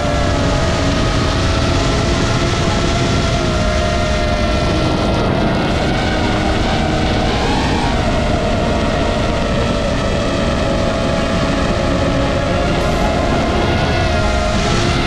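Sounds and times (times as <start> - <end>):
drone propellers whining: 0.0 - 15.0
low rushing noise: 0.0 - 15.0.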